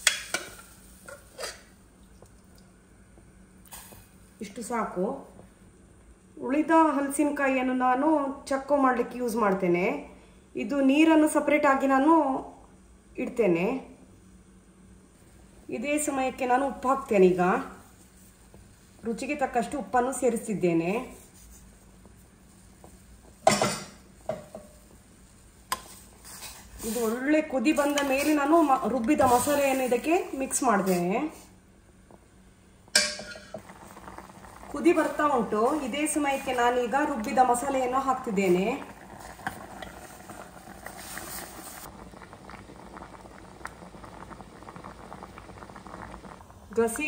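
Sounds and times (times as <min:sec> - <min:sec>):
curry boiling in a pot: 0:00.0 - 0:47.0.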